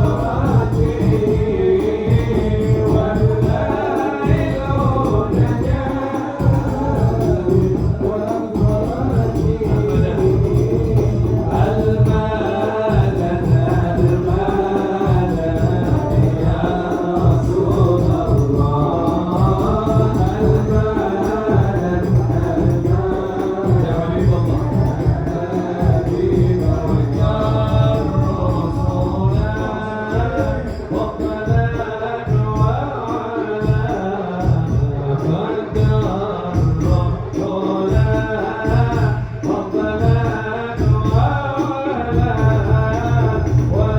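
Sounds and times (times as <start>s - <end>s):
frame drums beating: 0.0s - 43.9s
man singing ornamented melody: 0.0s - 43.9s.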